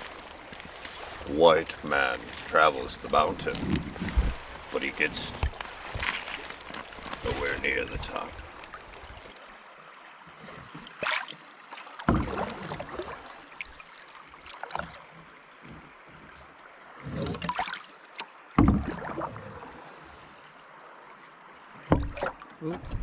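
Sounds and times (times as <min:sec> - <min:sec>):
paddle splashing in water: 0:00.0 - 0:09.4, 0:10.2 - 0:22.6.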